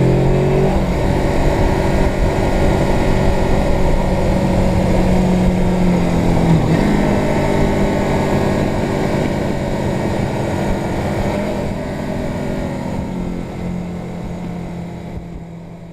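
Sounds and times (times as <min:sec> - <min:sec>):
wind rushing: 0:00.0 - 0:13.4
motorcycle engine running: 0:00.0 - 0:15.9.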